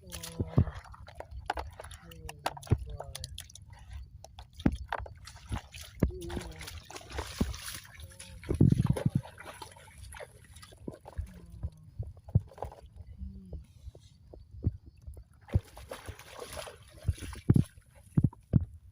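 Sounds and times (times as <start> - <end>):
splashing in muddy water: 0.0 - 13.8, 15.3 - 18.5.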